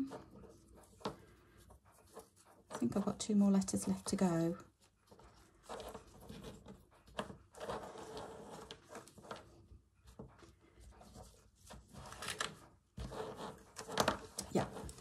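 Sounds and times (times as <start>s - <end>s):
fabric and ribbon rustling: 0.0s - 15.0s.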